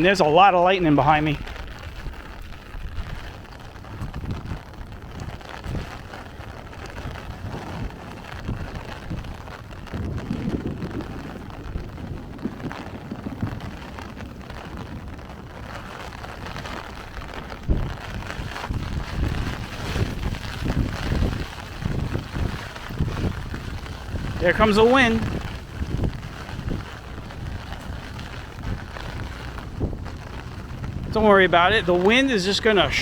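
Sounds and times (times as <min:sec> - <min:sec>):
heavy rain: 0:00.0 - 0:33.0
wind buffeting microphone: 0:00.0 - 0:33.0.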